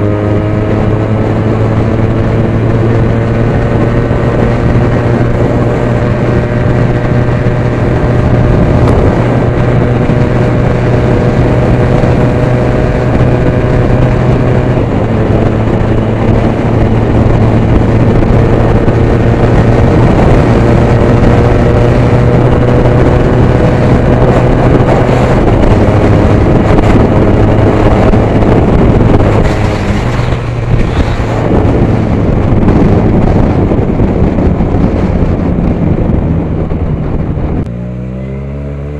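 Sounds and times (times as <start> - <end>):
wind on microphone: 0.0 - 38.0
motorcycle engine running: 0.0 - 38.9.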